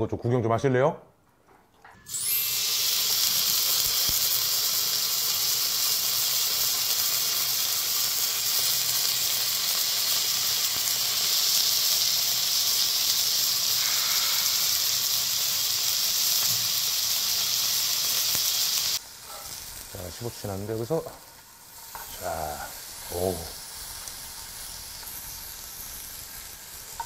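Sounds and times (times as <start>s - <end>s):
meat sizzling on griddle: 2.1s - 27.0s.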